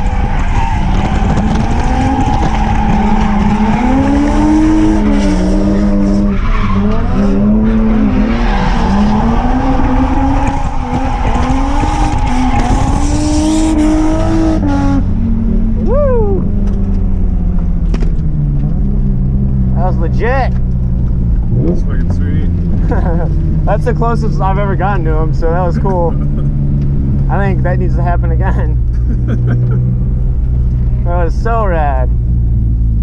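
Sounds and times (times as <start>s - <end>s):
car engine revving: 0.0s - 33.0s
tyres skidding: 0.0s - 33.0s.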